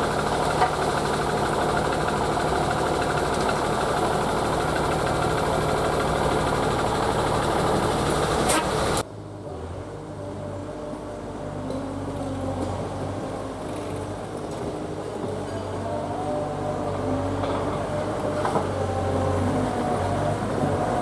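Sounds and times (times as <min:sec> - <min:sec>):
heavy diesel engine running: 0:00.0 - 0:09.0, 0:10.5 - 0:21.0.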